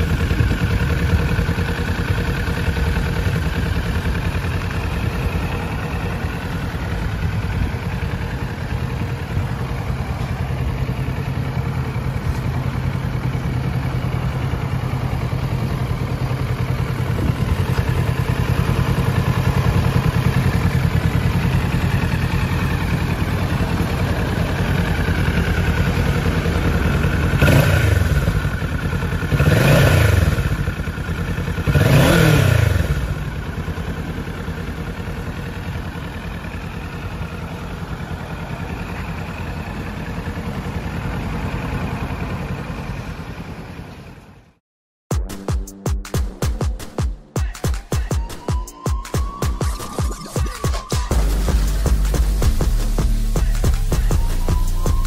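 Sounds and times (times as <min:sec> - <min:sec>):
motorcycle engine revving: 0:00.0 - 0:44.2
motorcycle engine idling: 0:00.0 - 0:44.6, 0:45.2 - 0:55.0.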